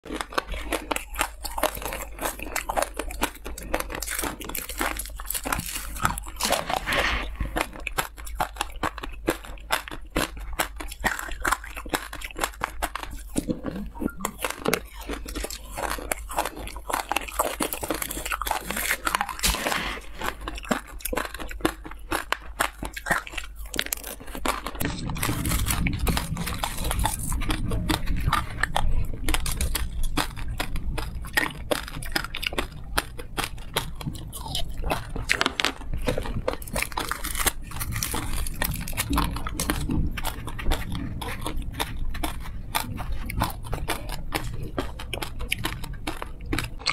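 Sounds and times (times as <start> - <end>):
chewing and crunching candy: 0.0 - 46.9.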